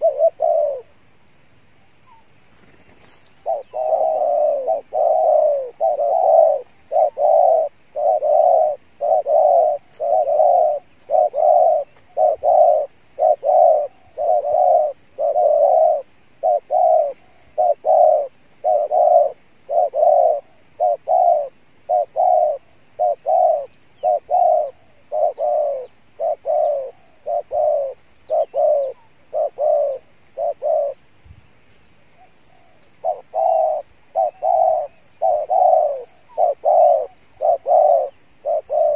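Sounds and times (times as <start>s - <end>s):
dove cooing: 0.0s - 1.2s, 1.9s - 31.1s, 32.0s - 38.9s.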